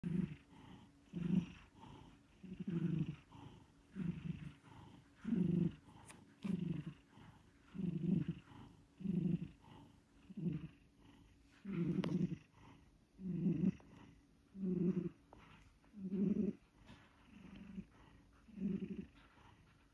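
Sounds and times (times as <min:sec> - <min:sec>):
cat snoring: 0:00.0 - 0:19.9.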